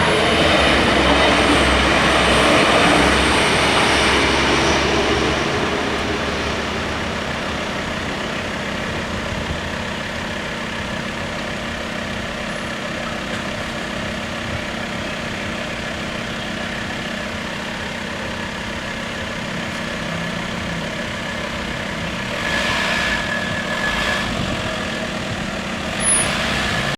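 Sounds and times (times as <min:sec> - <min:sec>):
vehicle engines idling: 0:00.0 - 0:26.9.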